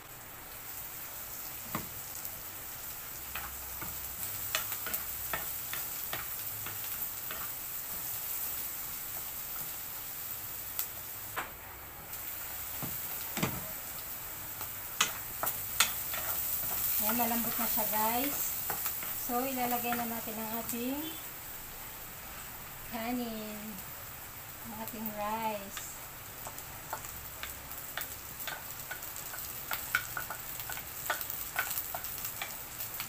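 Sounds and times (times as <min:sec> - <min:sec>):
vegetables sizzling in a frying pan: 0:00.0 - 0:33.0.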